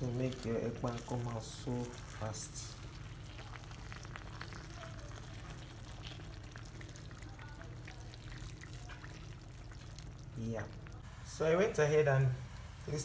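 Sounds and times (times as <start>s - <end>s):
water pouring and splashing: 0.0s - 11.0s
low steady hum: 0.0s - 13.0s.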